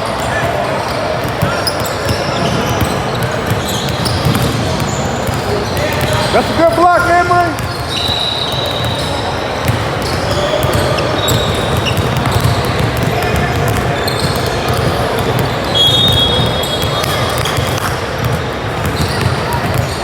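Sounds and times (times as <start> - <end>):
sneakers squeaking: 0.0 - 20.0
spectators chattering: 0.0 - 20.0
basketball bouncing on court: 0.2 - 20.0.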